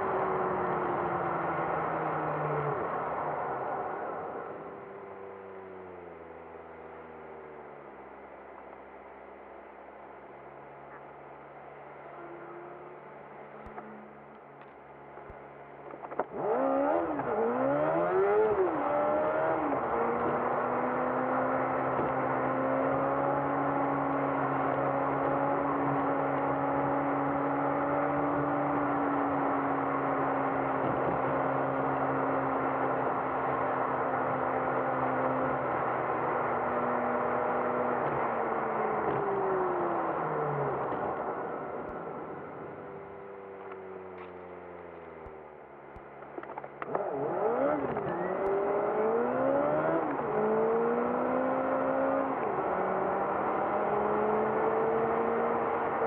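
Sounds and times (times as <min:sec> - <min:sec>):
in-car road and engine noise: 0:00.0 - 0:56.0.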